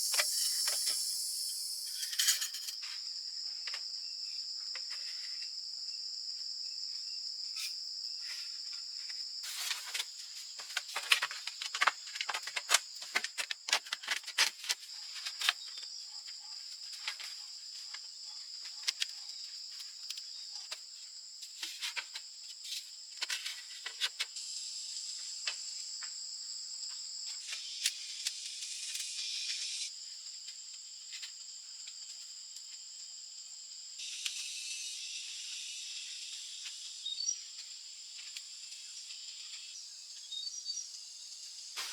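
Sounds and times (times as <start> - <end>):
insects droning: 0.0 - 41.9.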